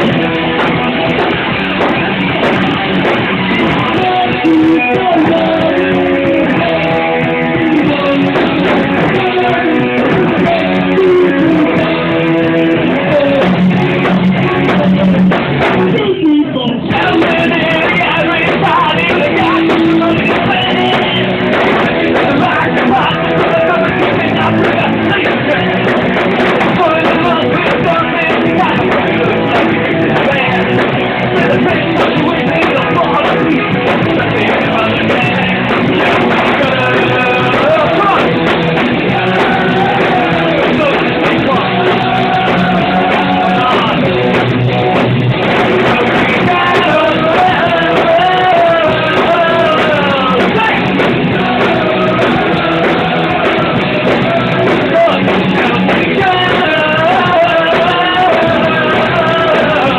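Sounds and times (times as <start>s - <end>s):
drum kit: 0.0s - 59.9s
electric guitar: 0.0s - 59.9s
person singing: 0.0s - 59.9s.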